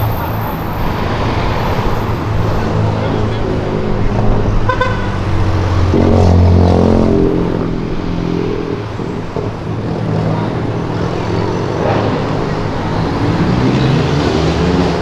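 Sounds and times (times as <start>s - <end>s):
cars driving past: 0.0s - 15.0s
car engine revving: 0.8s - 15.0s.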